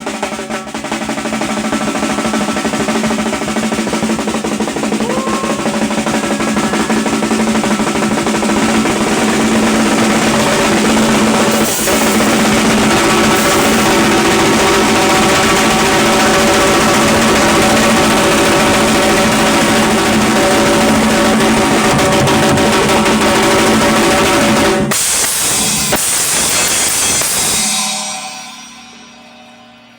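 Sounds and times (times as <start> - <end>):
fast drum roll: 0.0 - 28.0.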